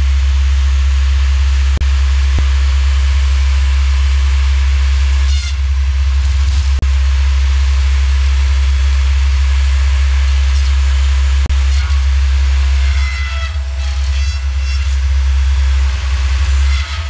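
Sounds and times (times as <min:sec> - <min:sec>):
rotary sawblade and tractor droning: 0:00.0 - 0:17.0.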